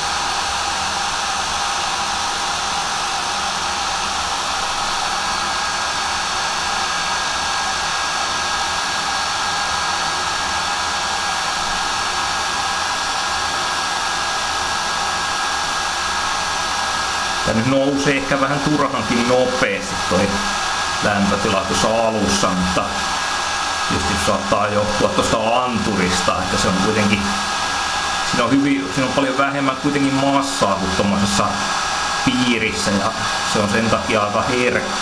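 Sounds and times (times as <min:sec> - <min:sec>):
fan motor whine: 0:00.0 - 0:35.0
heat gun blowing air: 0:00.0 - 0:35.0.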